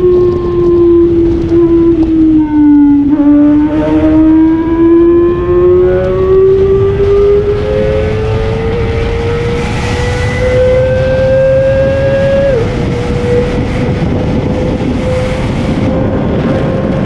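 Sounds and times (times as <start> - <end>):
motorcycle engine revving high: 0.0 - 17.0
wind rush on microphone: 0.0 - 17.0.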